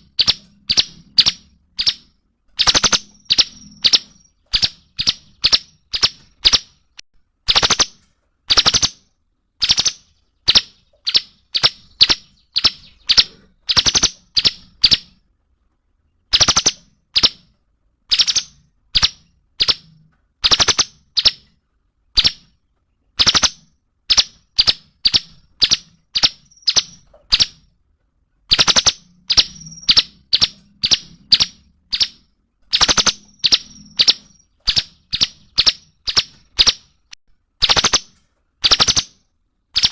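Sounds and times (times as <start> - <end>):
songbird rattling calls: 0.0 - 9.0, 9.6 - 15.2, 16.3 - 17.5, 18.1 - 21.5, 23.2 - 27.7, 28.5 - 39.9.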